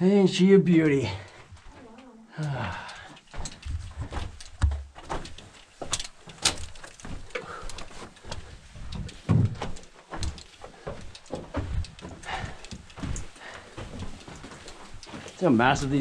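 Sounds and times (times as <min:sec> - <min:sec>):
footsteps on rocky floor: 0:02.6 - 0:16.0.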